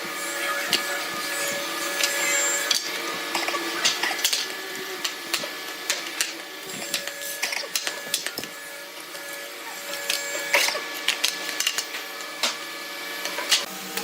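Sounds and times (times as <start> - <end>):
small machine humming: 0.0 - 14.0.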